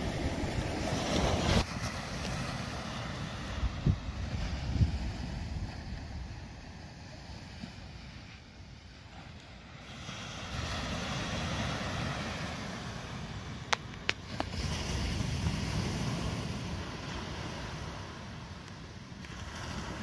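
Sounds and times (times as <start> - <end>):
ocean surf breaking: 0.0 - 20.0
wind rumble on microphone: 0.0 - 20.0.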